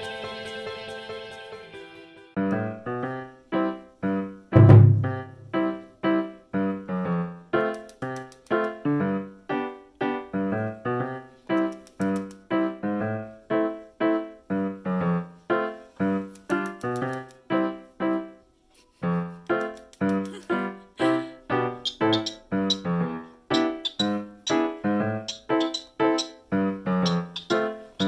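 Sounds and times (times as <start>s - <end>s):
light keyboard tune: 0.0s - 28.0s.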